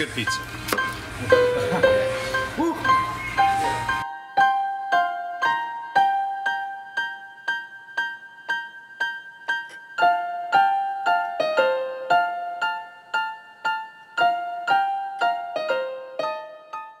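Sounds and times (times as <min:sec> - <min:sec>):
keyboard melody: 0:00.0 - 0:17.0.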